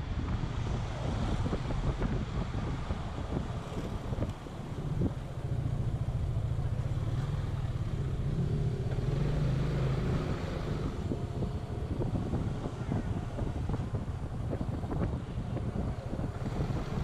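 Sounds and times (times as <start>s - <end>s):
road and wind noise: 0.0s - 17.0s
scooter engine running: 3.3s - 17.0s.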